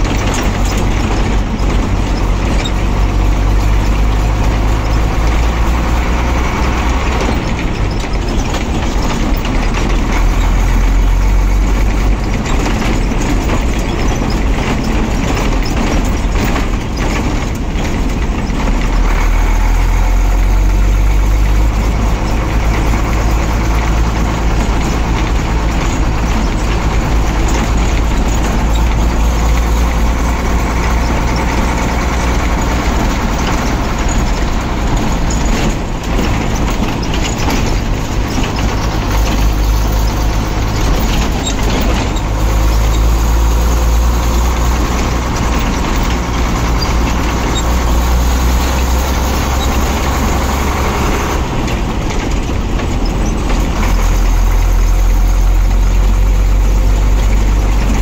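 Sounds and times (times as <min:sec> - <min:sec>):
diesel truck engine rumble: 0:00.0 - 0:58.0.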